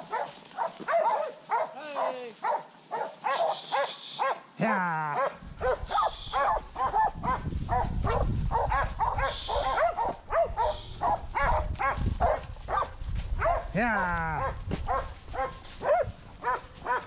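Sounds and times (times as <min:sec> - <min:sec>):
dogs barking: 0:00.0 - 0:04.5, 0:05.1 - 0:17.0.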